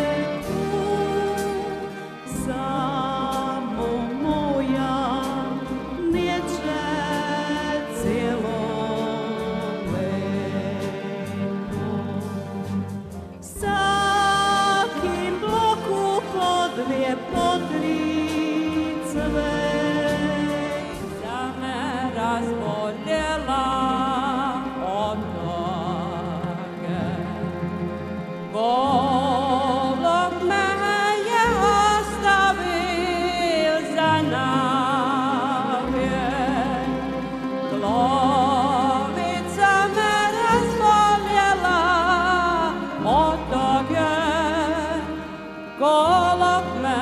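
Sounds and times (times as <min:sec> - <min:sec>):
woman singing with vibrato: 0:00.0 - 0:12.4, 0:13.4 - 0:27.8, 0:28.4 - 0:47.0
double bass low notes: 0:00.0 - 0:47.0
string orchestra playing: 0:00.0 - 0:47.0.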